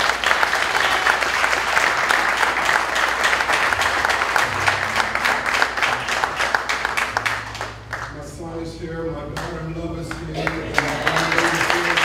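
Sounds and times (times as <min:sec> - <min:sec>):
crowd applauding: 0:00.0 - 0:08.6, 0:09.3 - 0:12.0.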